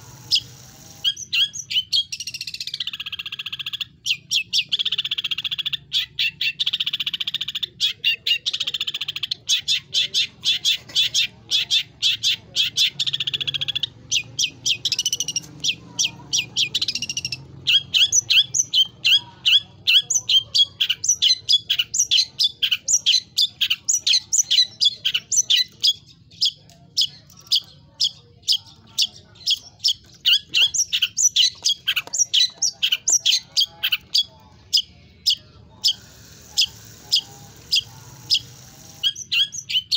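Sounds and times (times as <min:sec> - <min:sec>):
shrike singing mimicked phrases: 0:00.0 - 0:39.9.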